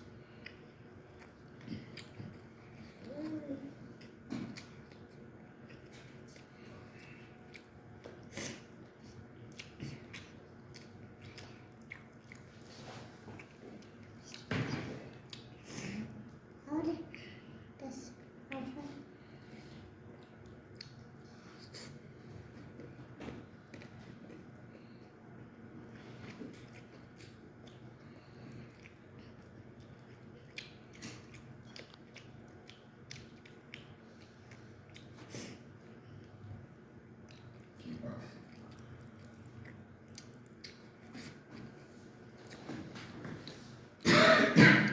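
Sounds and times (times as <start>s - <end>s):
person chewing food: 0.0s - 16.3s, 19.2s - 44.1s.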